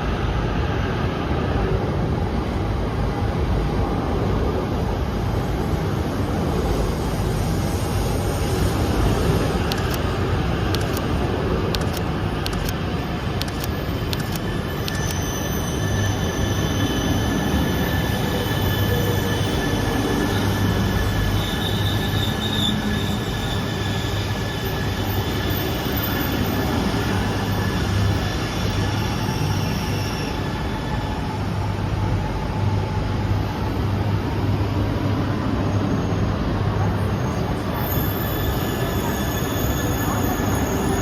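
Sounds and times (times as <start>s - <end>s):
train running on rails: 0.0s - 41.0s.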